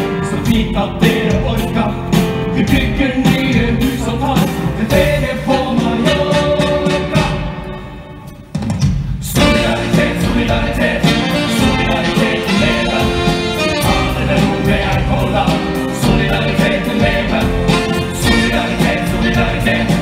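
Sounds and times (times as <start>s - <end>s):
ensemble singing with band: 0.0s - 8.2s, 9.2s - 20.0s.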